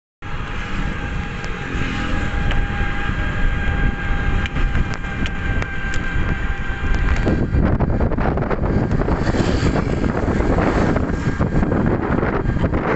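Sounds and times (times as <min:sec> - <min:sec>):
electric motor whine: 0:00.2 - 0:12.9
road noise: 0:00.2 - 0:12.9
wind rumble on microphone: 0:00.2 - 0:12.9.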